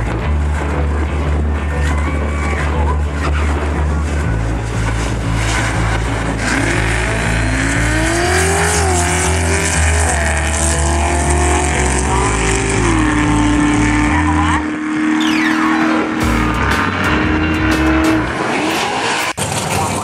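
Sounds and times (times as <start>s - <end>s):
drag car engines accelerating: 0.0s - 20.0s.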